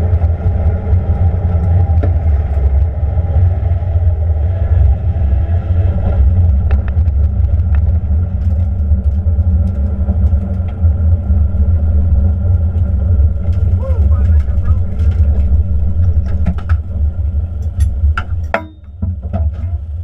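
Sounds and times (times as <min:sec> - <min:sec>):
engine deep rumble: 0:00.0 - 0:20.0.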